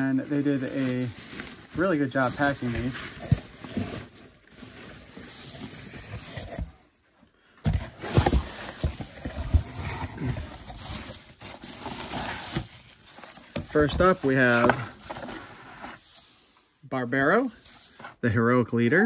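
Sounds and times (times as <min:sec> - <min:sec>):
packaging rustling and scraping: 0:00.0 - 0:16.8.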